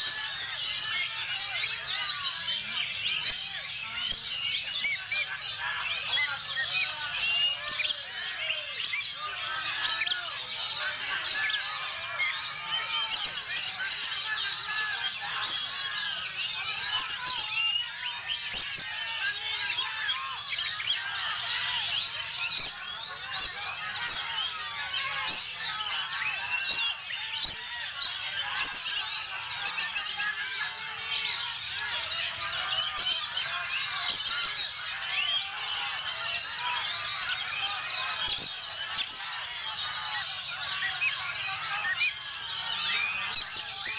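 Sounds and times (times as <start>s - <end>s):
chorus of songbirds: 0.0s - 43.9s
many birds singing: 0.0s - 43.9s.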